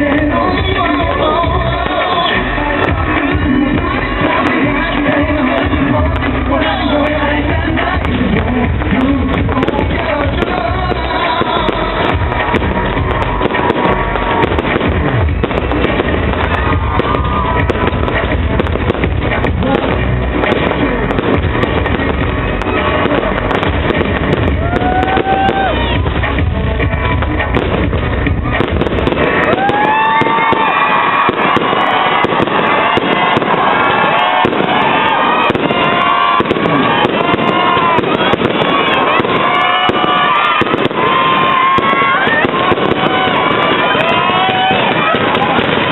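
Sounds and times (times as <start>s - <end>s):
crowd screaming and cheering: 0.0s - 45.9s
loud live pop music: 0.0s - 45.9s.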